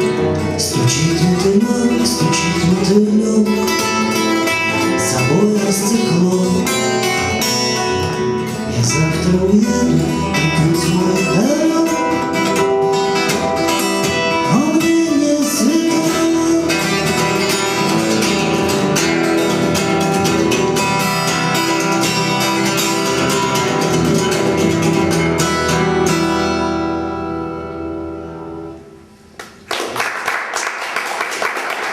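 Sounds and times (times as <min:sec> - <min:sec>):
acoustic guitar playing: 0:00.0 - 0:29.6.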